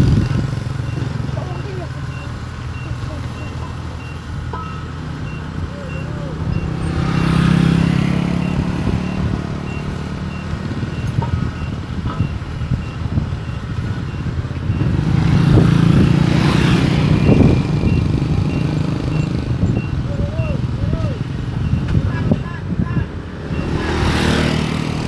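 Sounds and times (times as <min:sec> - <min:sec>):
harvester engine running hard: 0:00.0 - 0:25.0
warning alarm beeping: 0:00.3 - 0:25.0.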